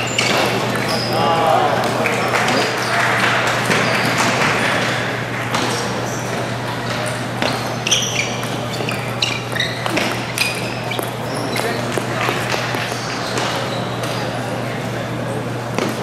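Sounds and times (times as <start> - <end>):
crowd murmur: 0.0 - 16.0.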